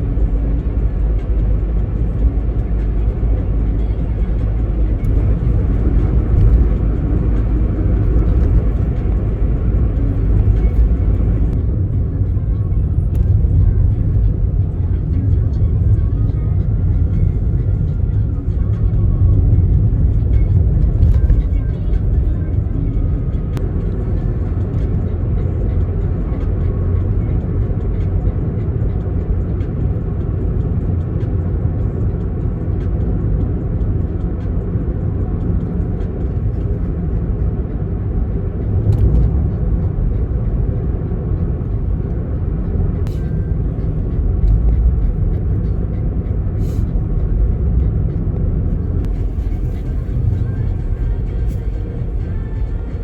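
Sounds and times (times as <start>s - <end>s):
car road and engine rumble: 0.0s - 53.0s.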